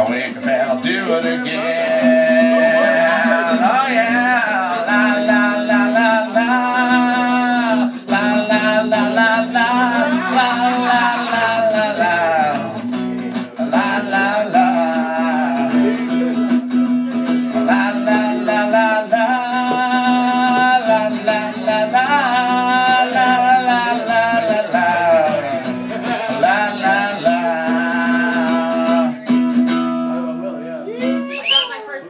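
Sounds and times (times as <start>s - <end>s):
acoustic guitar strumming: 0.0s - 31.8s.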